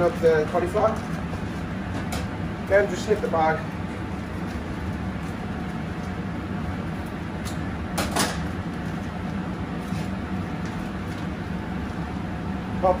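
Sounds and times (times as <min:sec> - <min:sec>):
kitchen extraction fan hum: 0:00.0 - 0:13.0.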